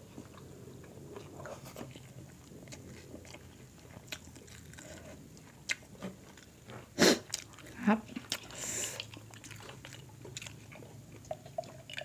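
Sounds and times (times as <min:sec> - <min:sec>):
chewing mouth sounds: 0:00.1 - 0:06.6, 0:07.2 - 0:12.0.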